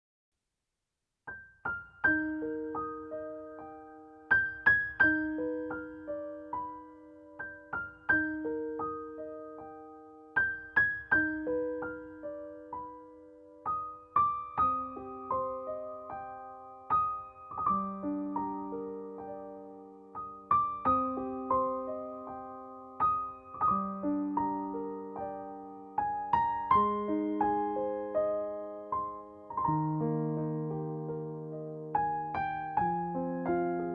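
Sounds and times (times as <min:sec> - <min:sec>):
gentle piano music: 0:01.3 - 0:33.9.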